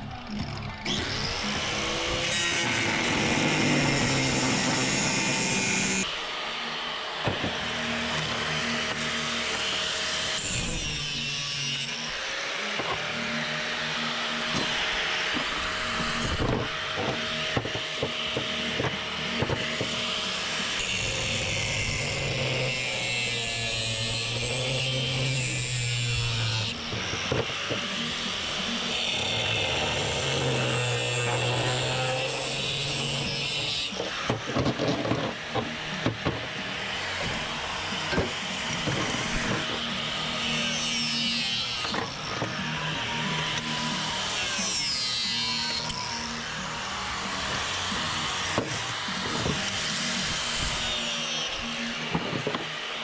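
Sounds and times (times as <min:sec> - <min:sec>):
power tool cutting metal pipe: 0:00.0 - 0:53.0.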